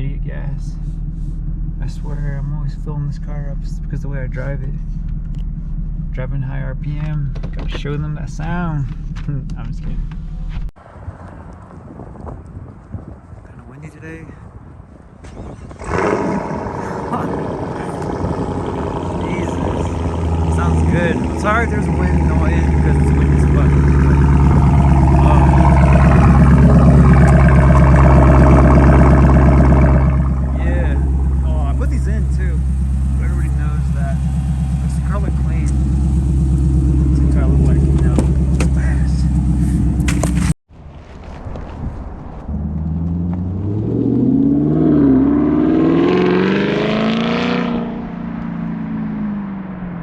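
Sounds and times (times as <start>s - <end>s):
car engine exhaust note: 0.0s - 10.7s, 15.7s - 40.6s, 42.5s - 50.0s.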